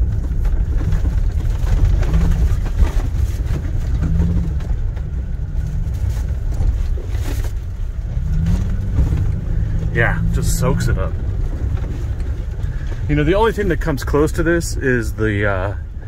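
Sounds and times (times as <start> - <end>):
suspension thuds: 0.0 - 14.6
truck engine running: 0.0 - 16.0.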